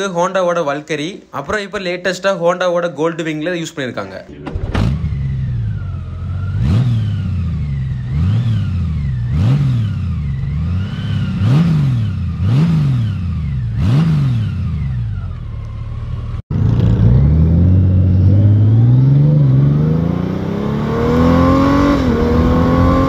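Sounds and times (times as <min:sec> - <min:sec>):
motorcycle accelerating: 0:04.3 - 0:23.0
motorcycle engine revving: 0:04.3 - 0:23.0.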